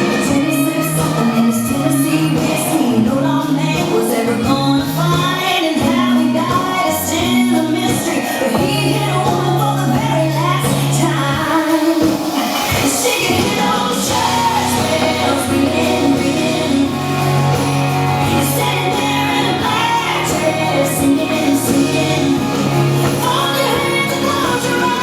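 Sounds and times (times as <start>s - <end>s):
country-pop song with singing: 0.0s - 25.0s.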